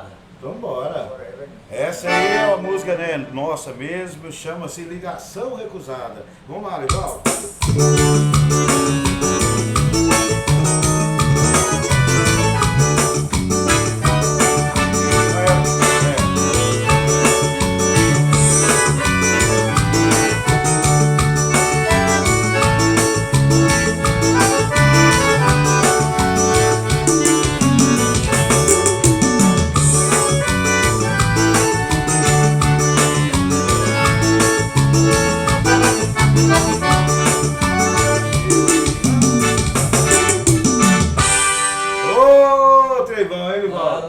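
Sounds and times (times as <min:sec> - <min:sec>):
organ-like keyboard: 0:02.0 - 0:03.0, 0:06.9 - 0:42.2
live band playing: 0:02.1 - 0:02.7, 0:06.9 - 0:42.4.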